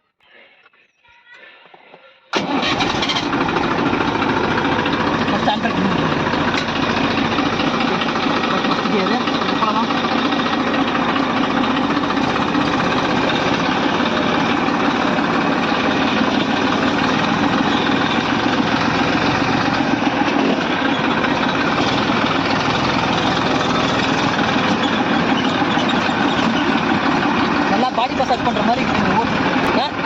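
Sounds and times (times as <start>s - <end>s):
tractor diesel engine clatter: 2.3s - 30.0s.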